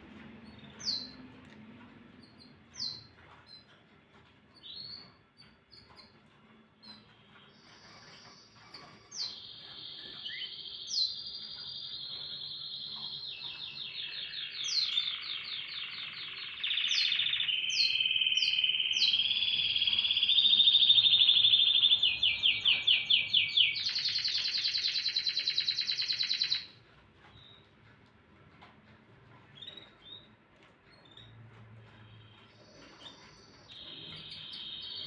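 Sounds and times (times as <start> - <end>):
canary singing trills: 0.2 - 27.8, 29.2 - 35.0.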